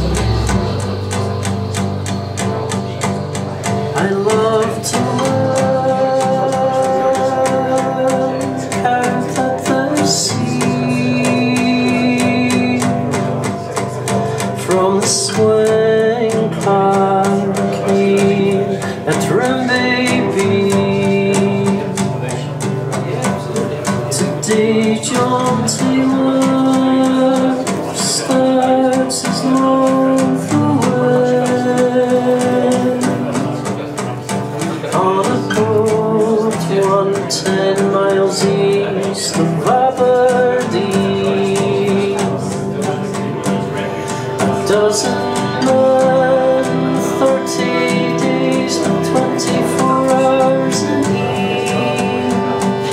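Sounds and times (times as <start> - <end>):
song over loudspeakers: 0.0 - 52.9.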